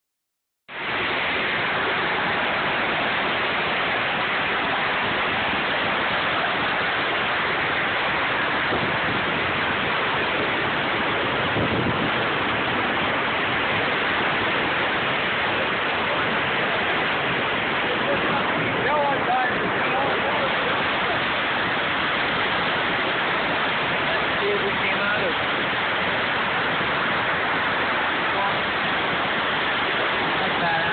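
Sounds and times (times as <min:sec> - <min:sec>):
waterfall rushing: 0:00.7 - 0:30.9.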